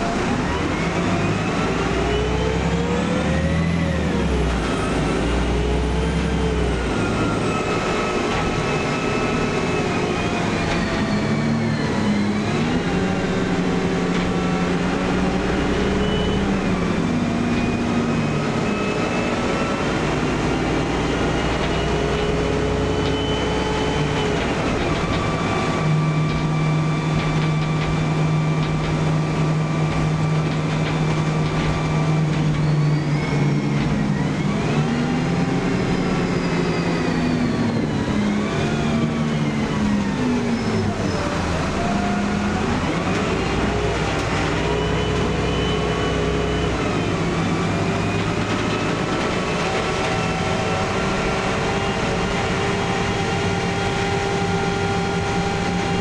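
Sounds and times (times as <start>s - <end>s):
bus engine and drivetrain whine: 0.0s - 56.0s.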